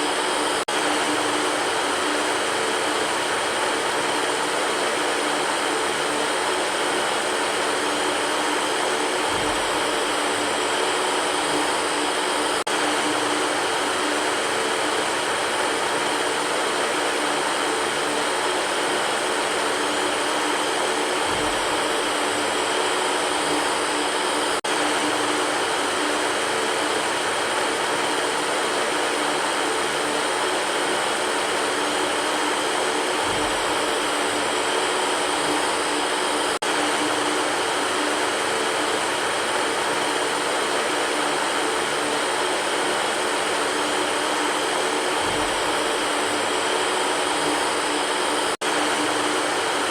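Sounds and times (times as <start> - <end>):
electric fan whooshing: 0.0 - 49.9.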